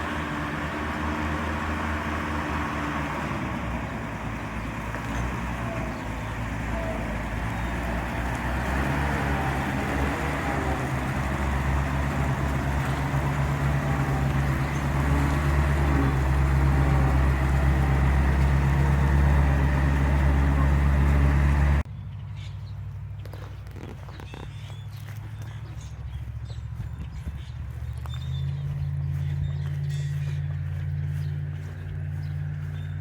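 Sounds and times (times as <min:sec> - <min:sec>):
truck engine running: 0:00.0 - 0:33.0.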